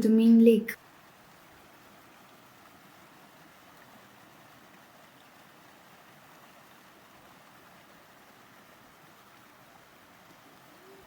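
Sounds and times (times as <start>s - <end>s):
flowing river water: 0.2s - 11.0s.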